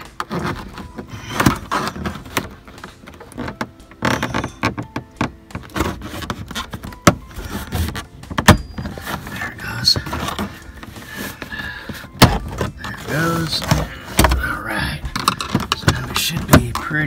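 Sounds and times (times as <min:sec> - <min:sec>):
plastic trim knocking and creaking: 0:00.0 - 0:17.0.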